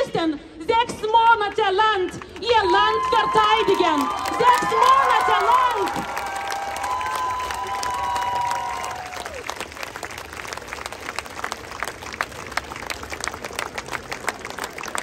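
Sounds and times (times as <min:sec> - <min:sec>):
crowd applauding: 0:02.3 - 0:15.0
crowd cheering: 0:02.6 - 0:15.0.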